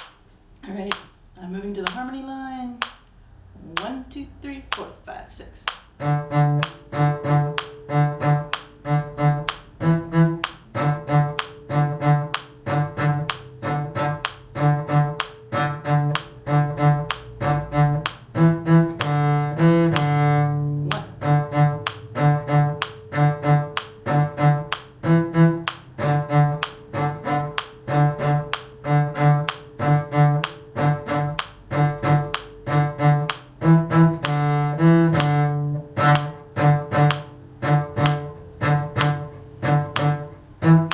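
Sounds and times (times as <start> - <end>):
bowed string instrument playing: 5.9 - 40.9.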